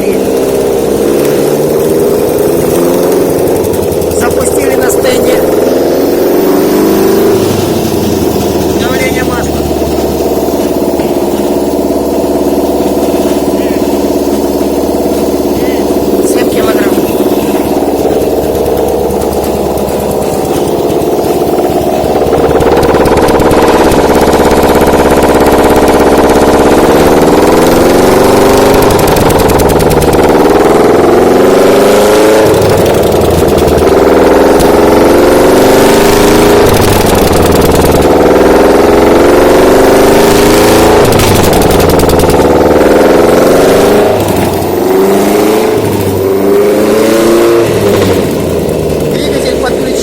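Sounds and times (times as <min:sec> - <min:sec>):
engine revving on test stand: 0:00.0 - 0:50.0.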